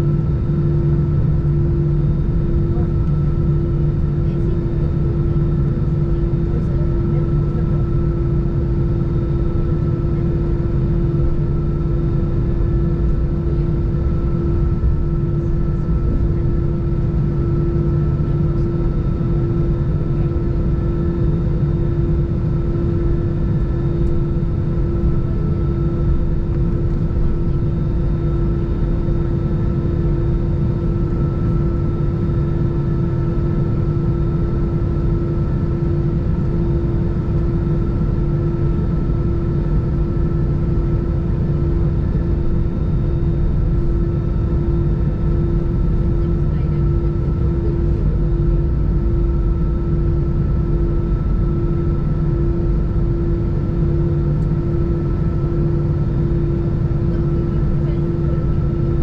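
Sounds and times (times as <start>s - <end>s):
jet engines humming in cabin: 0.0s - 59.0s.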